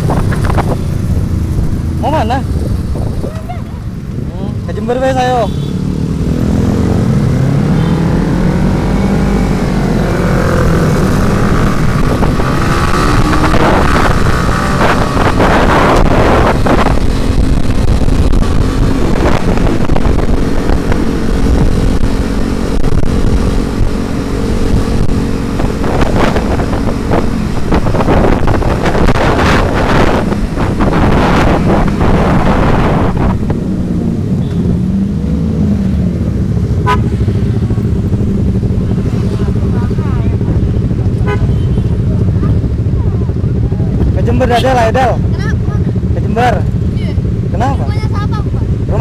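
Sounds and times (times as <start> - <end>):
wind noise on microphone: 0.0 - 4.7, 6.2 - 44.3
motorcycle engine running: 0.0 - 6.2, 9.4 - 49.0.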